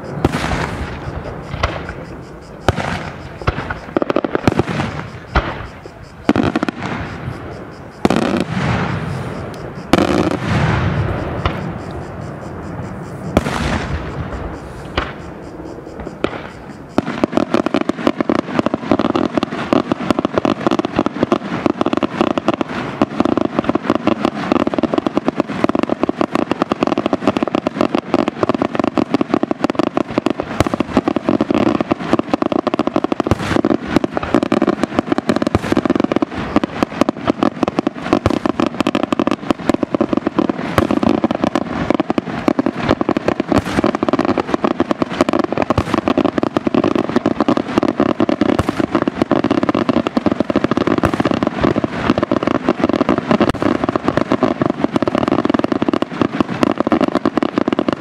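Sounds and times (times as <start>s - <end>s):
loud single firework bangs: 0.0s - 15.4s, 16.0s - 58.0s
fireworks bangs and crackling: 0.0s - 58.0s.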